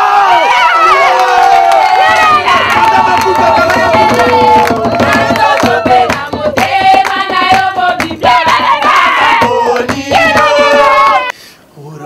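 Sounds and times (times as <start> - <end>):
voices singing praise song: 0.0 - 12.0
hands clapping: 1.2 - 11.2.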